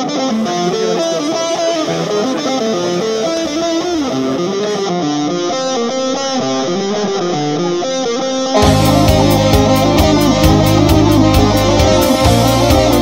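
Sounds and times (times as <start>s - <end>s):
music with beat and bass: 0.0s - 13.0s
picked melody music: 0.0s - 13.0s.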